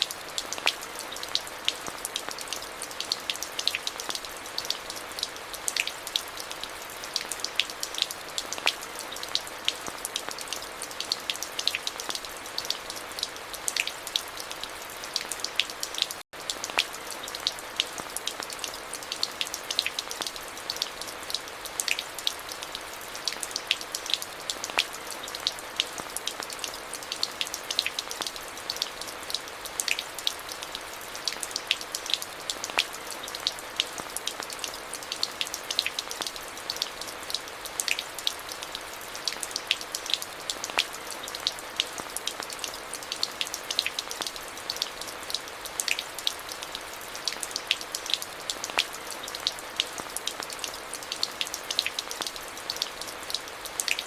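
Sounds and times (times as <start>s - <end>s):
rain falling: 0.0s - 54.0s
raindrops ticking: 0.0s - 54.0s.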